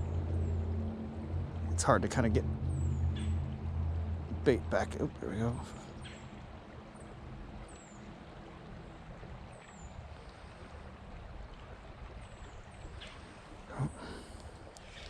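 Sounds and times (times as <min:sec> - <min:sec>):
creek water flowing: 0:00.0 - 0:15.0.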